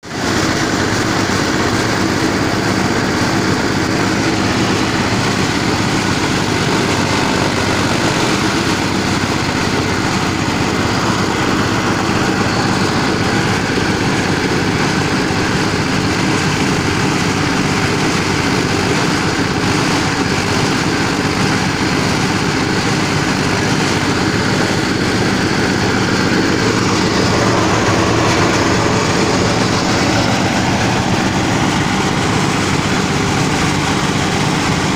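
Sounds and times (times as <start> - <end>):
motor-driven machine running: 0.2 - 34.9.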